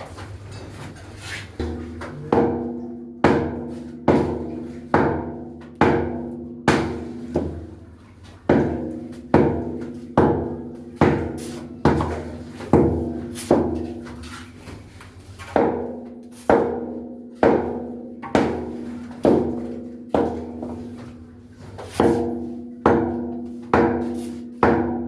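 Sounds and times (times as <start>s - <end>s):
hammer blows on water tank: 1.6s - 7.9s, 8.5s - 14.0s, 15.5s - 20.9s, 21.9s - 25.0s.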